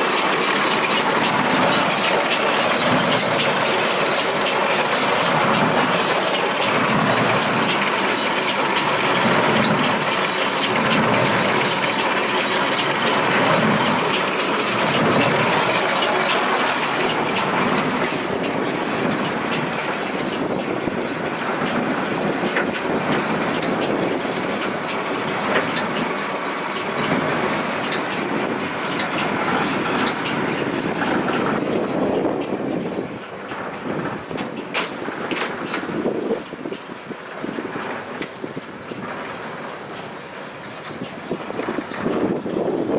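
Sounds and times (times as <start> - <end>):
baler clattering: 0.0 - 42.9.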